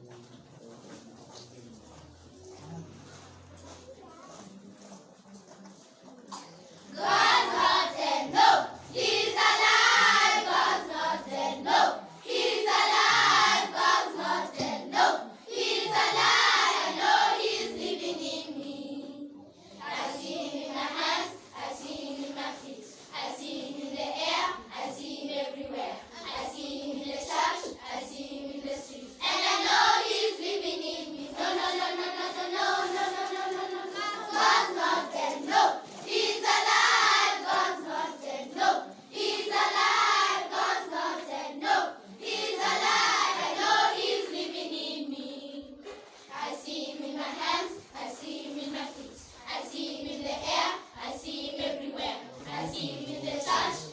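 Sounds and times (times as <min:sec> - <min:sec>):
children singing together: 0:06.3 - 0:53.9.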